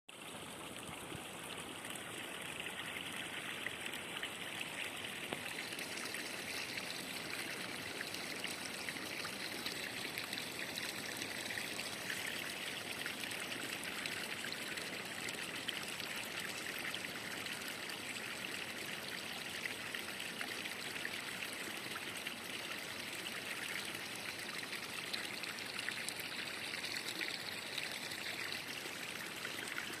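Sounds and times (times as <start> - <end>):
creek water trickling: 0.1 - 30.0.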